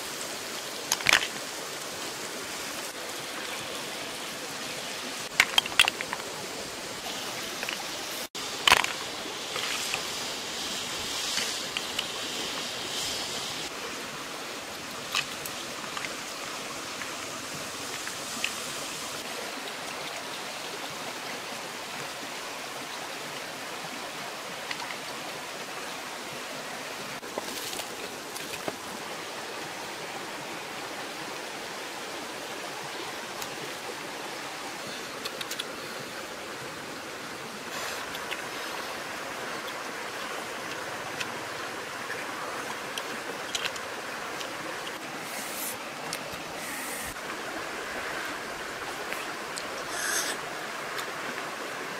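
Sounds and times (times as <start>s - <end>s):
river rushing over stones: 0.0s - 51.9s.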